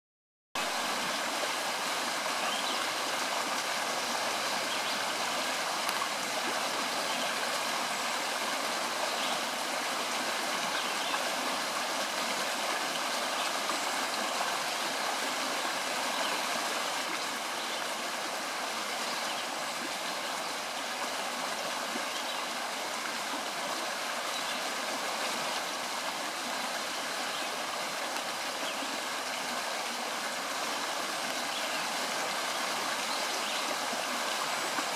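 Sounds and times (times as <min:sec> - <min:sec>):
stream babbling over stones: 0:00.6 - 0:34.9.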